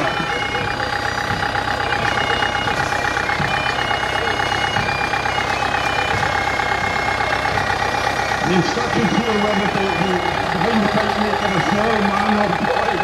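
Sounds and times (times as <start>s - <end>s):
steady high tone: 0.0s - 13.0s
tractor diesel engine running: 0.0s - 13.0s.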